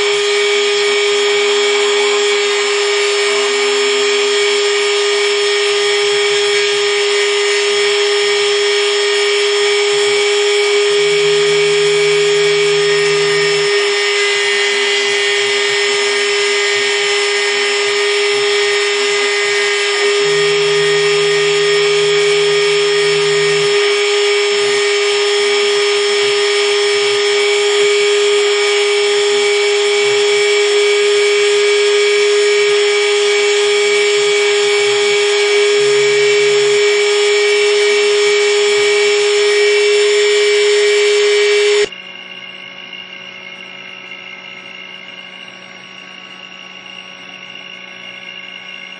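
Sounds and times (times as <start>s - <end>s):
low hum: 0.0s - 41.9s
low machine sounds: 0.0s - 48.9s
router spindle high-pitched whine: 0.0s - 48.9s.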